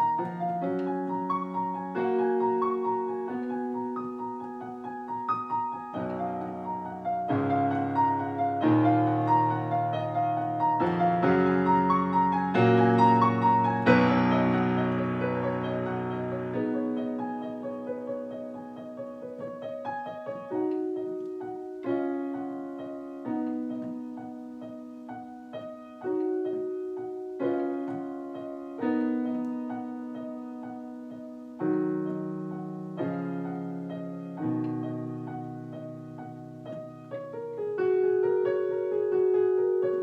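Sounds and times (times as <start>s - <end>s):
piano playing slow chords: 0.0s - 40.0s.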